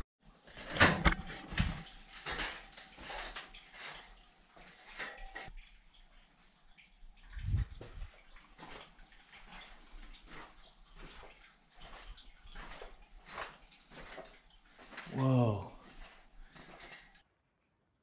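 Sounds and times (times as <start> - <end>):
water splashing and dripping: 1.5 - 17.2.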